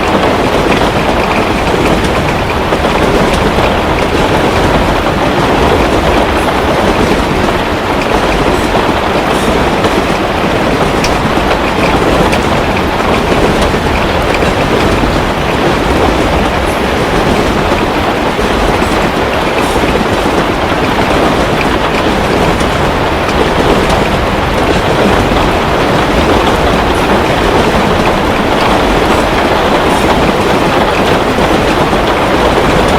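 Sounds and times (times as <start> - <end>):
heavy rain: 0.0 - 32.9.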